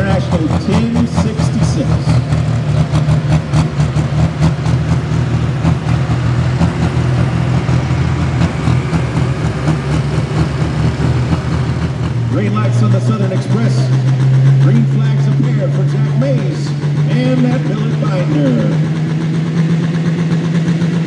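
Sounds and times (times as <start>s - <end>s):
loud diesel tractor engine: 0.0s - 21.0s.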